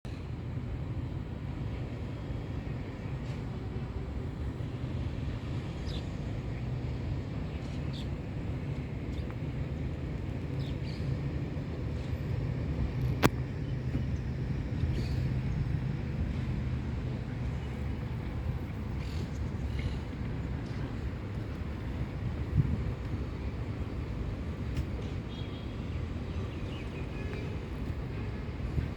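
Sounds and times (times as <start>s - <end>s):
road traffic hum: 0.1s - 28.9s.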